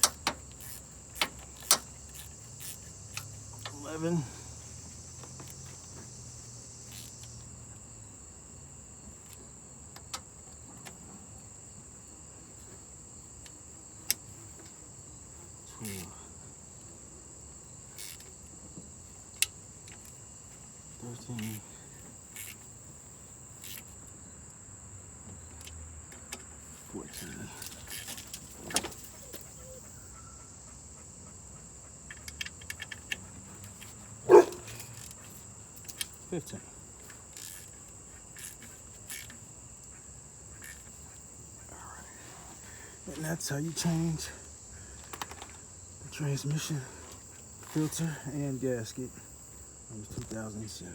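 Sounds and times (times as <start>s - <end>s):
crickets chirring: 0.0s - 50.9s.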